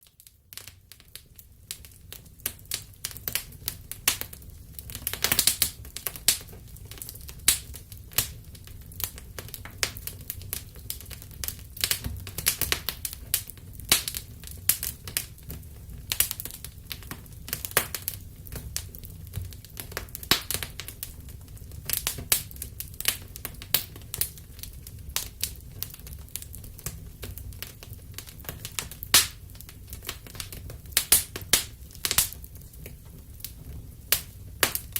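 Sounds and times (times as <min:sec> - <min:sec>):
fire crackling and popping: 0:00.0 - 0:34.9
low rumble of flames: 0:00.2 - 0:34.9.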